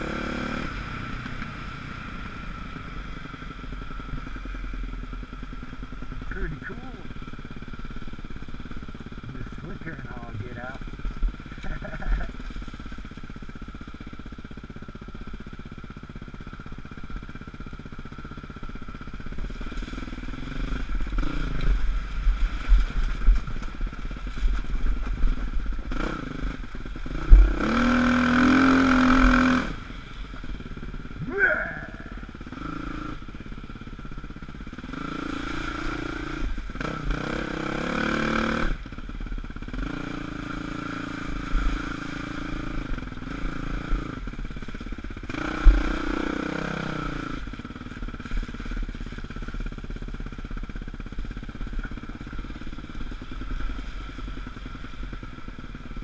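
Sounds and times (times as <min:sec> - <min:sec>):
dirt bike engine revving: 0:00.0 - 0:14.8, 0:19.0 - 0:38.9, 0:39.6 - 0:50.2.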